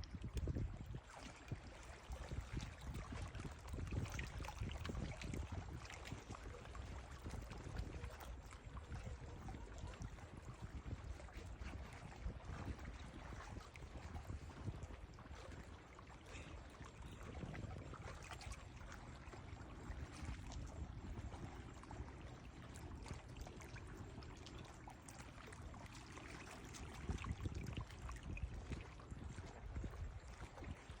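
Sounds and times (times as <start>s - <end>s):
ocean water splashing: 1.0s - 31.0s.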